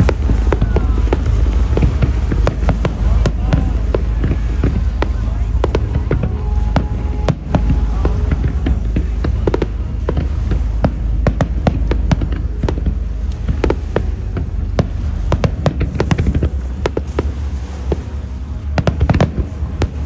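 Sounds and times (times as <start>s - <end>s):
fireworks bangs and cracks: 0.0s - 20.0s
low rumble: 0.0s - 20.0s.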